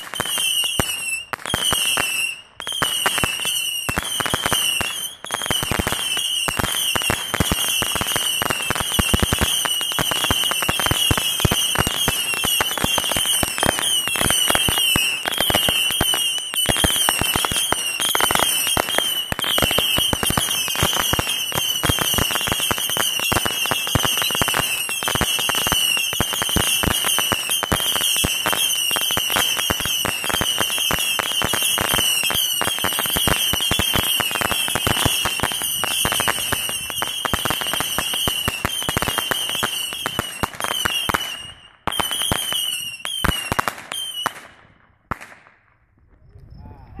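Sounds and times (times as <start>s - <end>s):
firework cake crackling shots: 0.0s - 45.7s.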